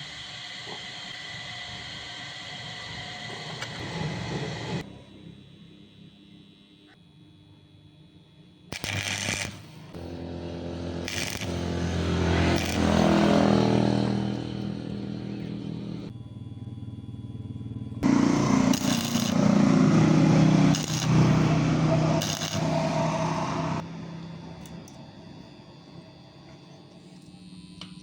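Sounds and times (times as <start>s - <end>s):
workshop machine motor running: 0.0s - 28.0s.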